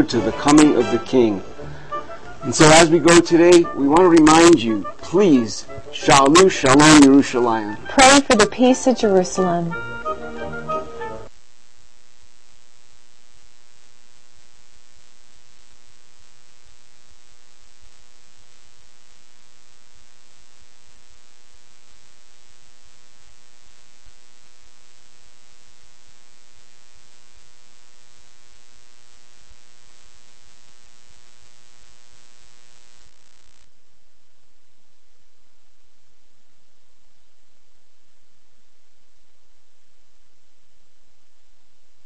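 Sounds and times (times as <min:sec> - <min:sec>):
faint hiss: 0:00.0 - 0:42.0
steady electrical hum: 0:00.0 - 0:42.0.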